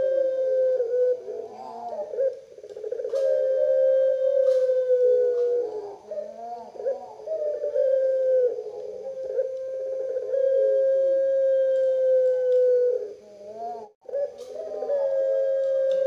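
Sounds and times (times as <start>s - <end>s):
collared dove cooing: 0.0s - 16.0s.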